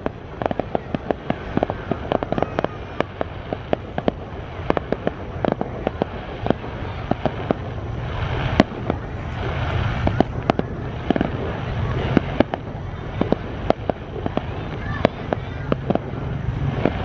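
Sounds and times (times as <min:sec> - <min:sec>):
fireworks bangs and cracks: 0:00.0 - 0:17.0
fireworks crackling hiss: 0:00.0 - 0:17.0.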